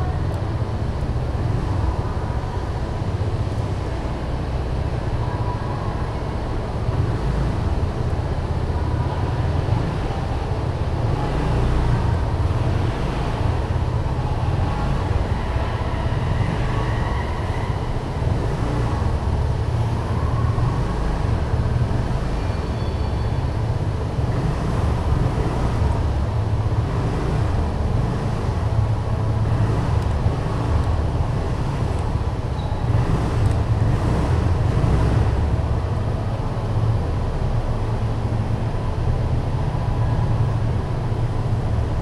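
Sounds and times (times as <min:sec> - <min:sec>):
low rumble of vehicle traffic: 0:00.0 - 0:42.0.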